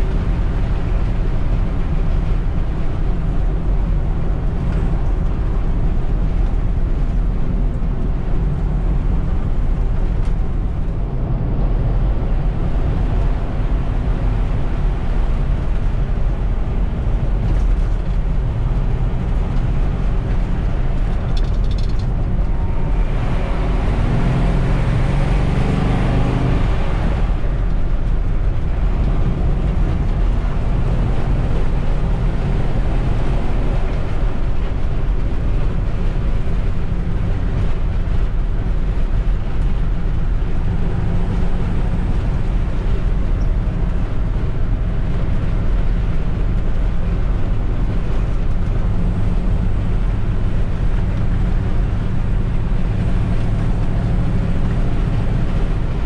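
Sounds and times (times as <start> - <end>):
road noise: 0.0 - 56.0
truck engine running: 0.0 - 56.0.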